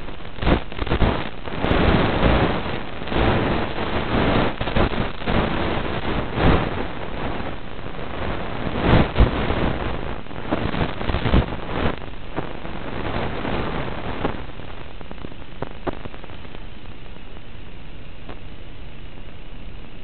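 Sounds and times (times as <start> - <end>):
crackles: 0.0 - 20.0
wind and motor hiss: 0.0 - 20.0.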